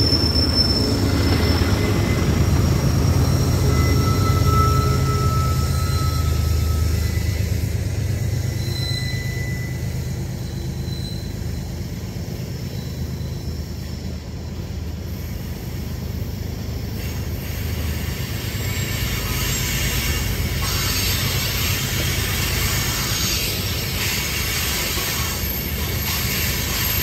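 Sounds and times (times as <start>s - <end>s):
freight train rumbling past: 0.0s - 27.0s
train wheel squeals: 0.0s - 27.0s.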